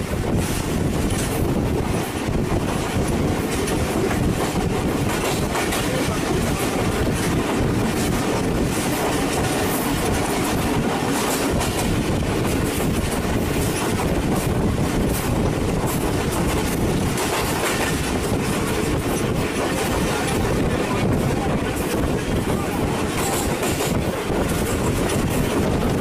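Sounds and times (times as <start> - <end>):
train wheels rumbling on rails: 0.0 - 26.0
wheels clicking over rail joints: 0.3 - 26.0.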